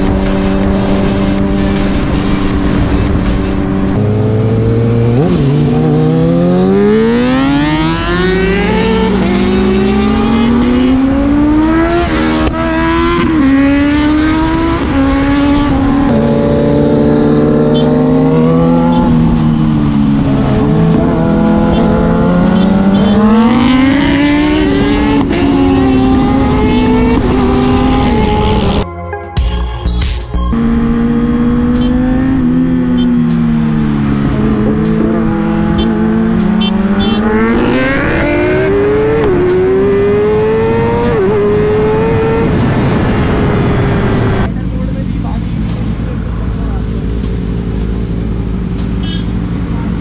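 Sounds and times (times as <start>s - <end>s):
motorcycle engine accelerating: 0.0s - 28.9s, 30.5s - 50.0s.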